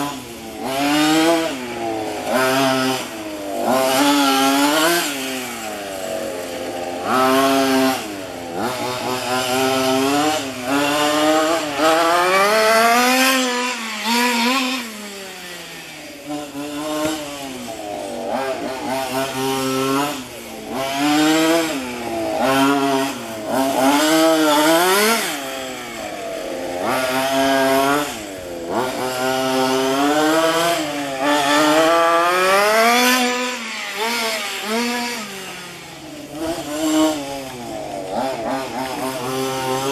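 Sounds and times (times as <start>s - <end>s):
radio-controlled car engine revving: 0.0s - 39.9s.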